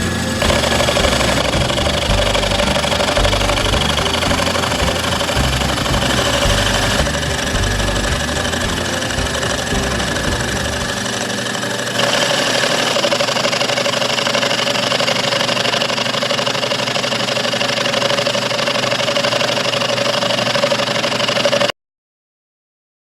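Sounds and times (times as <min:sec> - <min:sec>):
machine tool cutting metal: 0:00.0 - 0:21.7.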